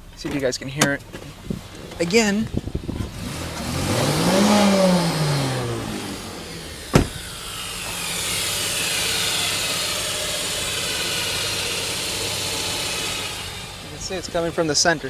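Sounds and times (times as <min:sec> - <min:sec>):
car engine revving: 0:00.0 - 0:15.0
engine running with high whine: 0:00.0 - 0:15.0.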